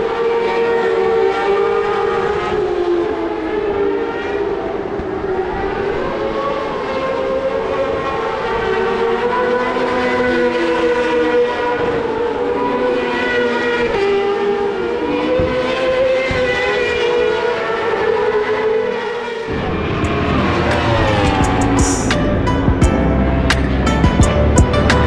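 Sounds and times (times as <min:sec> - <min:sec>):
racing motorcycle engines: 0:00.0 - 0:25.0.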